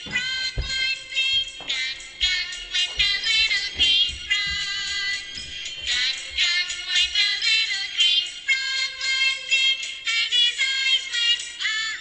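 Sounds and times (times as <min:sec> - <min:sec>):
backing music with light beat: 0:00.0 - 0:12.0.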